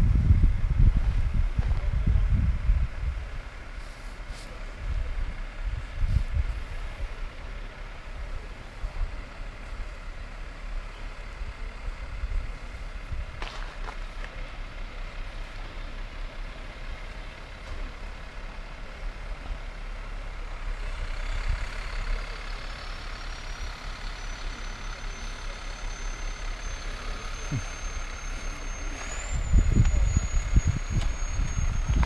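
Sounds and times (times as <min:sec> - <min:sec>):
vehicle noise: 0:00.0 - 0:32.0.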